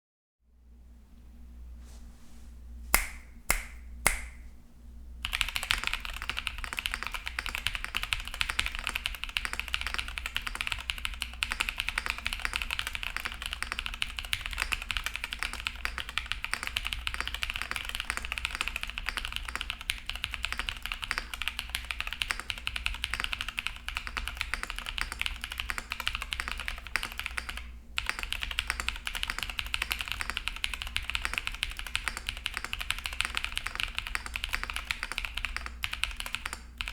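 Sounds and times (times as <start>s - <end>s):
fast mechanical keyboard typing: 5.2s - 36.9s.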